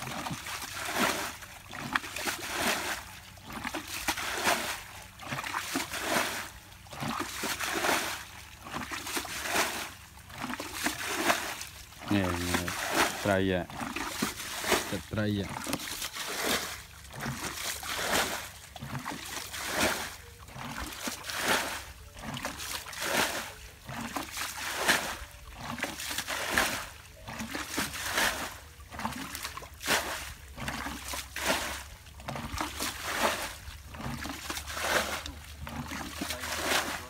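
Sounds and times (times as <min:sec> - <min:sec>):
water scooped from bucket: 0:00.0 - 0:37.0
wet squelching and rustling: 0:00.0 - 0:37.0.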